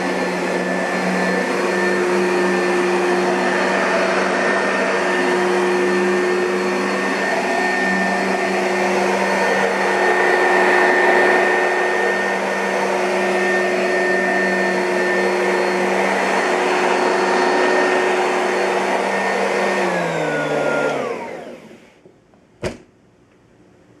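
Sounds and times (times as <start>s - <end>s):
vacuum cleaner whine: 0.0s - 22.1s.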